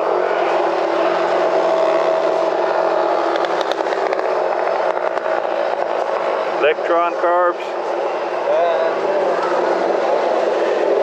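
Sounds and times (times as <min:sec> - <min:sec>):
distant vehicle engine drone: 0:00.0 - 0:11.0.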